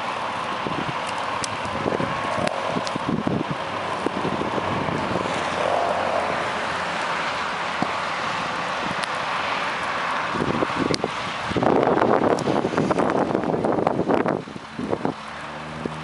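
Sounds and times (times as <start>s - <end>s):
vehicle engine noise: 0.0s - 16.0s
wind on microphone: 0.6s - 9.1s, 10.2s - 16.0s.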